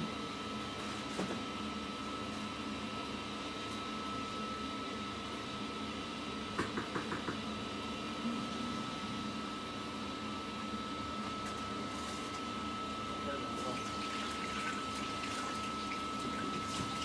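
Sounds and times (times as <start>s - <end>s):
kitchen equipment humming: 0.0s - 17.0s.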